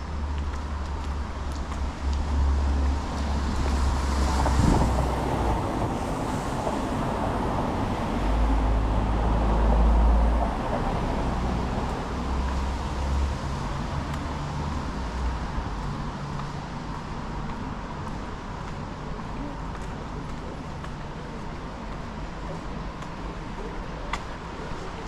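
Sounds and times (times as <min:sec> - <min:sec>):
cars passing: 0:00.0 - 0:25.0
steady low traffic rumble: 0:00.0 - 0:25.0.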